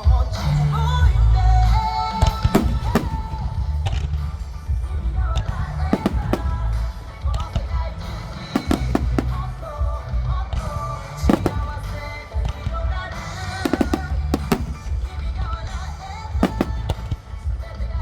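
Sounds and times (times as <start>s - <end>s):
fireworks bangs: 2.2s - 17.9s.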